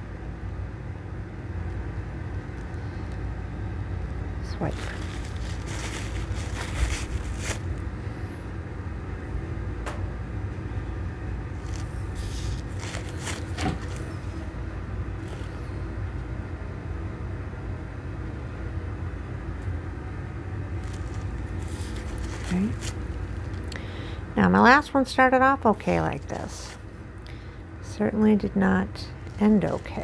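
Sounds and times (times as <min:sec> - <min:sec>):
faint hum: 0:00.0 - 0:30.0
low background rumble: 0:00.0 - 0:30.0.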